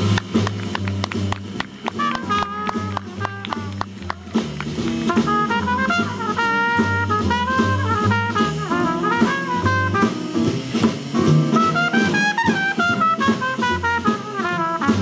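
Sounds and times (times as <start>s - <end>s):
jazz band playing: 0.0s - 15.0s
trumpet solo: 1.4s - 15.0s.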